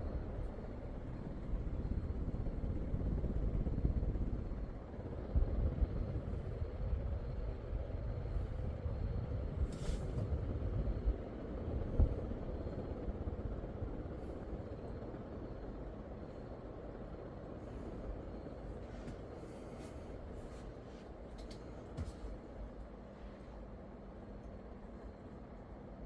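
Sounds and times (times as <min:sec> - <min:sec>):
ceiling fan air rush: 0:00.0 - 0:26.0
fan motor hum: 0:00.0 - 0:26.0.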